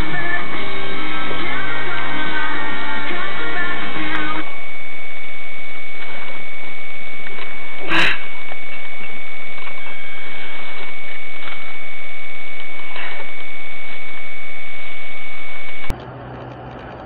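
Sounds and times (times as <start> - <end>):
high-pitched whine: 0.0 - 17.0
loud steady noise: 0.0 - 17.0.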